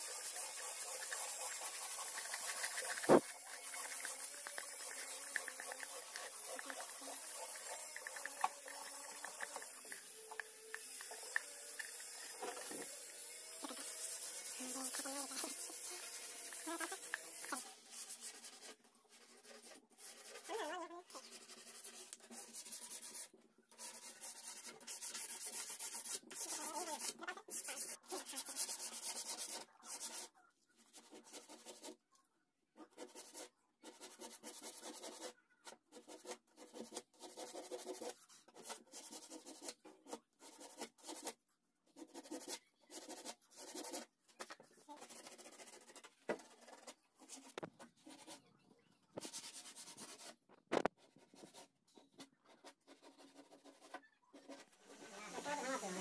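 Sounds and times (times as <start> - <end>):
dry scraping of filler on wood: 0.0 - 32.0, 42.0 - 48.4, 49.2 - 56.0.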